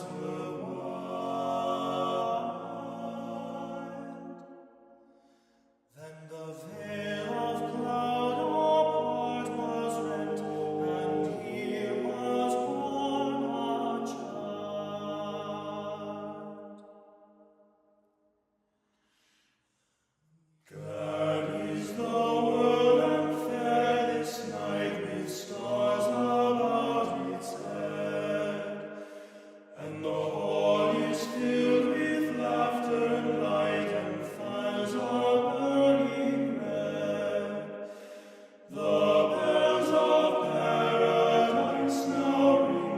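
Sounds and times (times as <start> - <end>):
voices singing sustained notes: 0.0 - 5.2, 6.0 - 17.3, 20.7 - 42.9.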